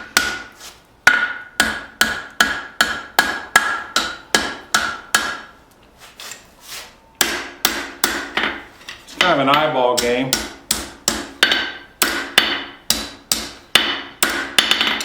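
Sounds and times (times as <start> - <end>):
hammer striking steel on anvil: 0.0 - 5.5, 7.2 - 8.6, 9.2 - 15.0.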